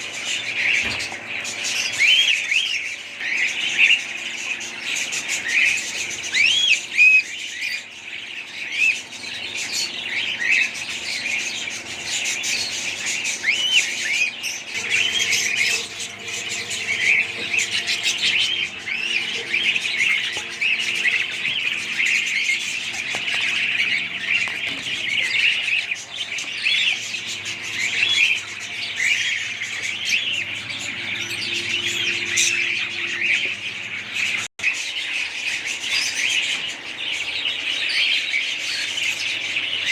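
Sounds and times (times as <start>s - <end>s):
budgies chirping and chattering: 0.0s - 39.9s.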